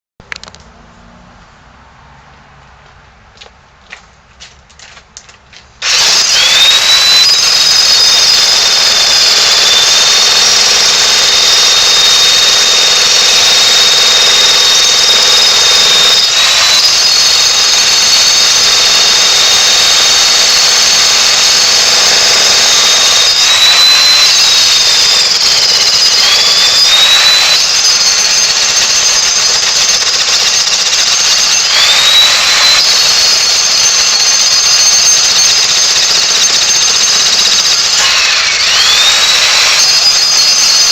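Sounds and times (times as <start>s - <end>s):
jackhammer hammering: 5.8s - 40.9s.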